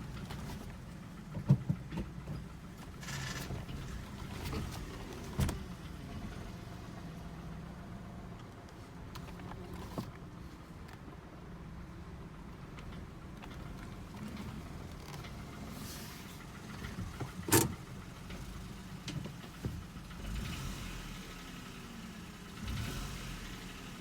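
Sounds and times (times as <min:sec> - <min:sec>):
car engine clattering: 0:00.0 - 0:24.0.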